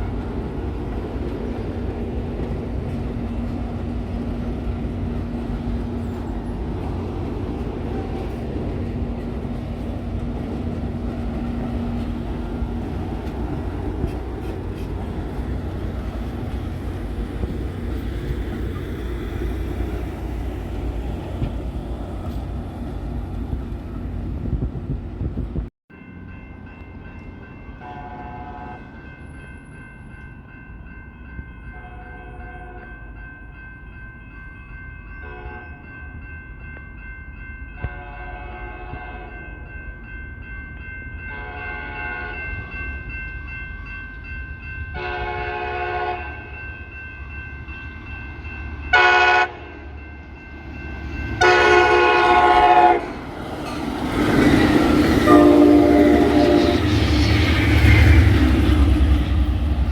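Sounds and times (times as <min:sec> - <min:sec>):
train rumbling close by: 0:00.0 - 0:59.9.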